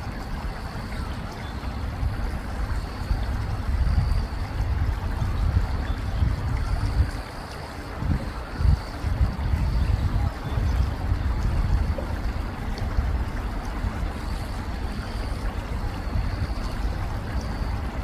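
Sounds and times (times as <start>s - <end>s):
river water rippling over stones: 0.0s - 18.0s
wind rumbling on microphone: 0.0s - 18.0s.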